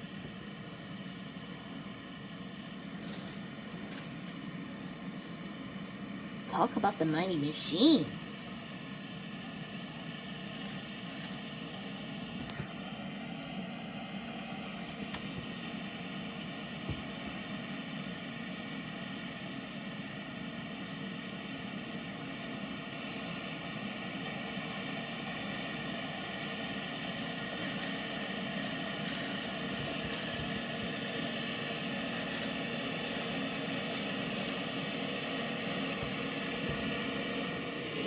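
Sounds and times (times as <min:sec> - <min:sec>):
combine harvester droning: 0:00.0 - 0:38.0.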